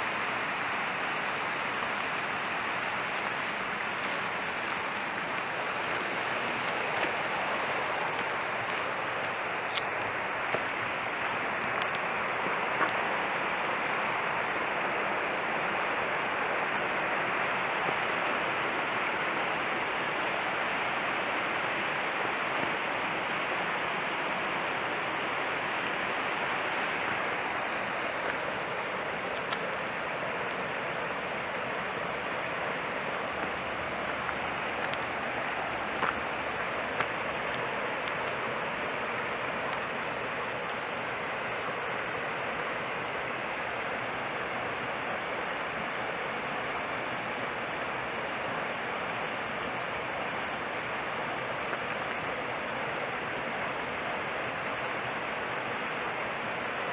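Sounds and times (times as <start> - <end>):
stream rushing: 0.0 - 56.9.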